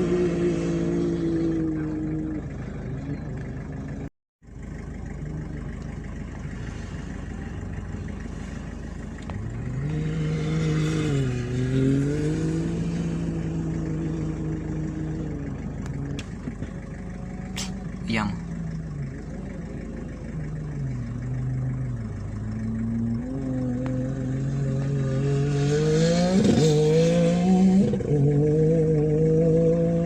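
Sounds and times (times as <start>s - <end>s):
rally car engine running: 0.0s - 30.0s.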